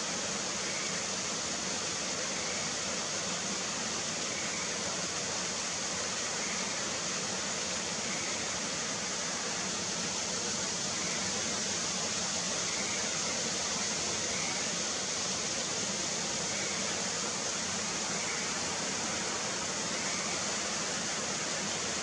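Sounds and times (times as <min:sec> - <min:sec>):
steady hiss: 0:00.0 - 0:22.0
tree frogs calling: 0:00.0 - 0:22.0.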